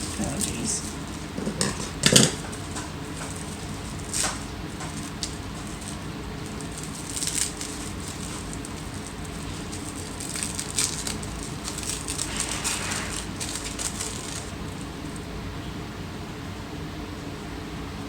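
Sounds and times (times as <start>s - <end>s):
packaging crinkling and rustling: 0.0s - 15.3s
steady low hum: 0.0s - 18.0s.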